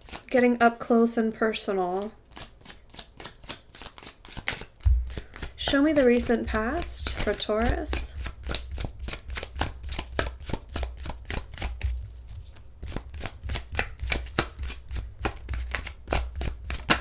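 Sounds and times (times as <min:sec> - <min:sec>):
cards being shuffled: 0:00.0 - 0:00.3, 0:01.9 - 0:17.0.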